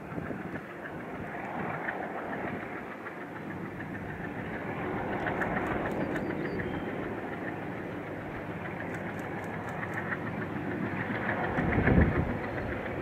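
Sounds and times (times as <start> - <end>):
diesel locomotive engines: 0.0 - 13.0
train wheels ticking on rails: 0.0 - 13.0.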